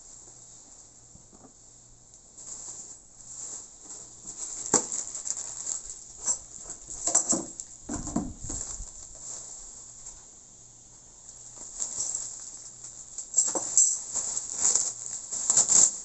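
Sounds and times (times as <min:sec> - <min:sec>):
bubble wrap rustling and crinkling: 0:02.2 - 0:10.3, 0:11.2 - 0:16.0.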